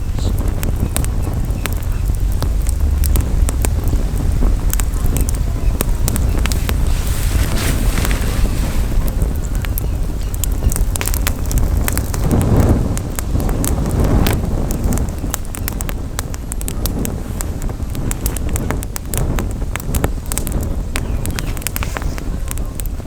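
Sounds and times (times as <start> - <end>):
campfire crackling: 0.0 - 23.0
wind rumble on microphone: 0.0 - 23.0.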